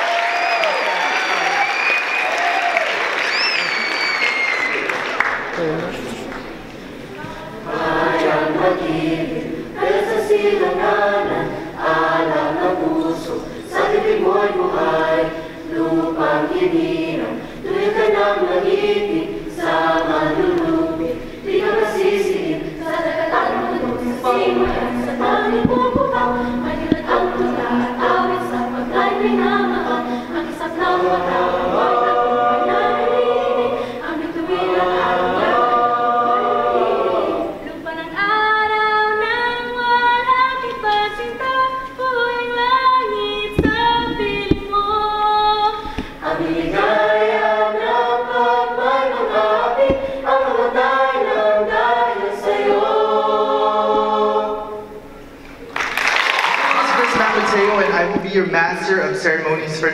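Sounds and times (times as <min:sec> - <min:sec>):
mixed choir singing unaccompanied: 0:07.1 - 0:59.9.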